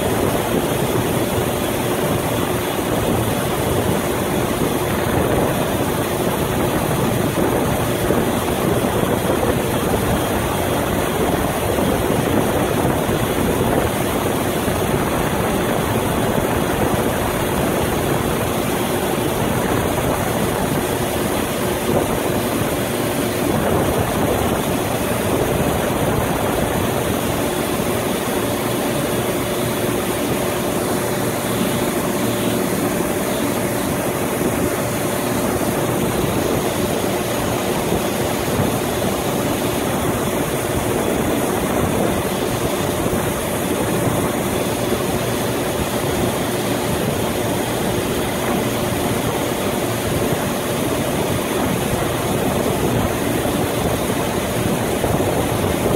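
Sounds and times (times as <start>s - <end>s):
ship engine idling: 0.0s - 55.9s.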